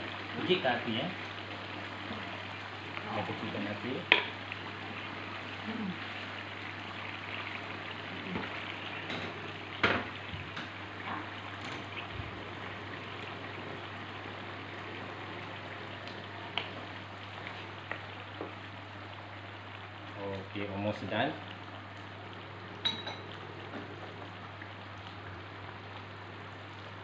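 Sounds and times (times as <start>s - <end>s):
curry simmering and bubbling: 0.0s - 27.0s.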